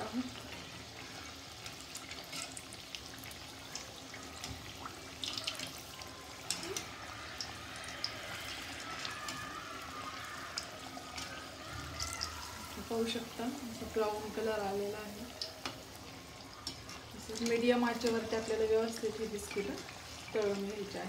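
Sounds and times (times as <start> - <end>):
oil bubbling and sizzling: 0.0 - 21.0
sharp crackles of frying: 0.0 - 21.0.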